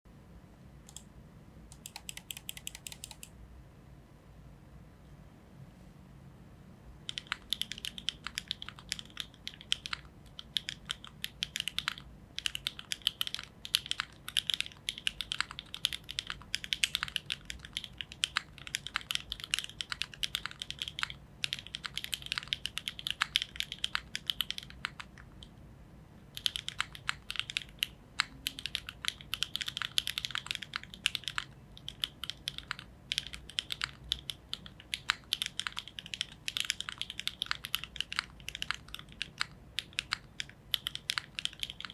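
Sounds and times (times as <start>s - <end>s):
mechanical keyboard typing: 1.7s - 3.3s, 7.0s - 25.5s, 26.4s - 41.9s.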